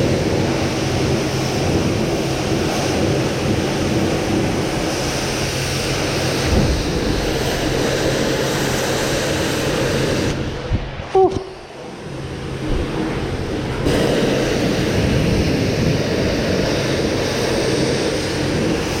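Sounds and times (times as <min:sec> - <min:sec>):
pressure washer spraying: 0:00.0 - 0:10.7, 0:11.4 - 0:19.0.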